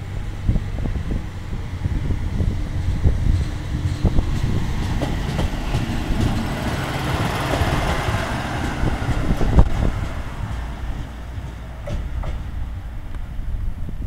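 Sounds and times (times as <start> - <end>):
wheels clacking over rail joints: 0.0 - 13.4
diesel railcar passing: 0.0 - 14.0.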